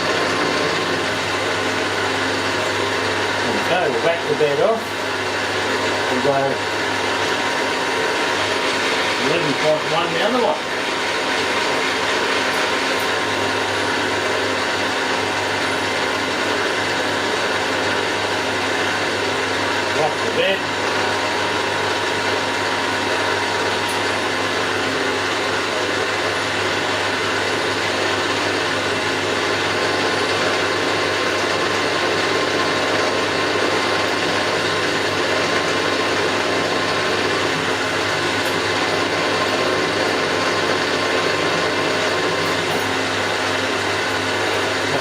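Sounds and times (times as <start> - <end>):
milling machine whirring: 0.0 - 45.0.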